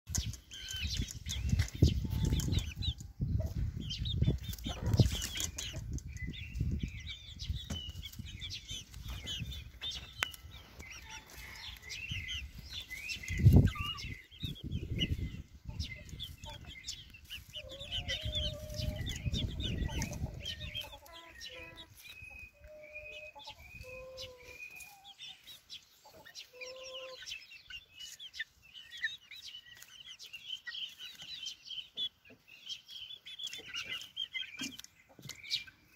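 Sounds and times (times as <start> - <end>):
chicks peeping and chirping: 0.1 - 35.9.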